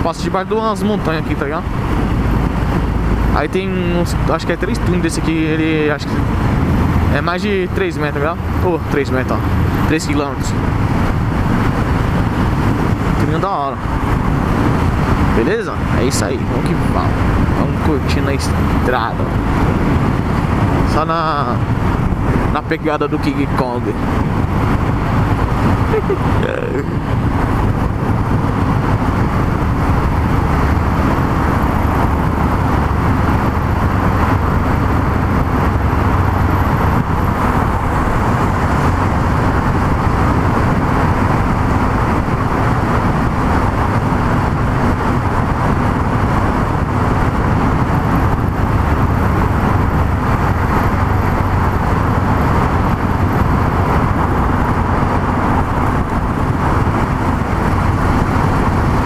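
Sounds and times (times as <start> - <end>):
road noise: 0.0 - 59.0
wind noise: 0.0 - 59.0.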